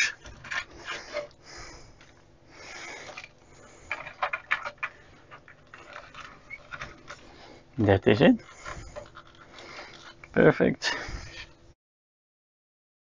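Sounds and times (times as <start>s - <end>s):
wiring rustling: 0.0s - 11.6s.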